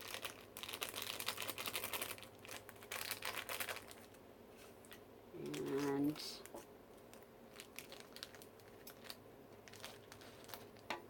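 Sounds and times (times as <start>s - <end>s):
candy packet crinkling: 0.0s - 4.2s, 4.8s - 10.9s.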